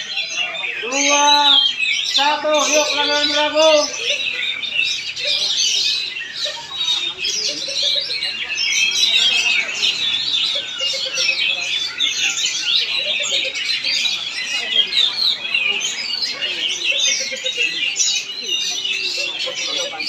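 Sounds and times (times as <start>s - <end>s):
bird singing chirps and trills: 0.0s - 20.0s.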